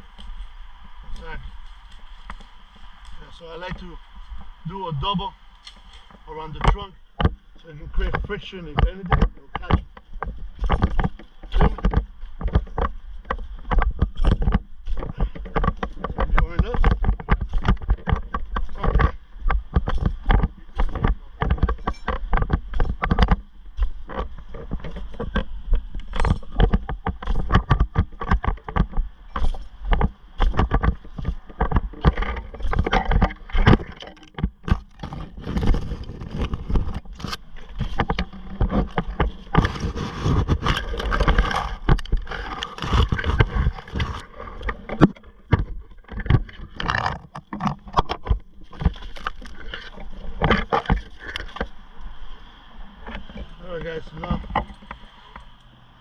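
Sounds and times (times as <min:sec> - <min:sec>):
rope and gear knocking on bark: 0:00.0 - 0:51.8, 0:53.0 - 0:55.6.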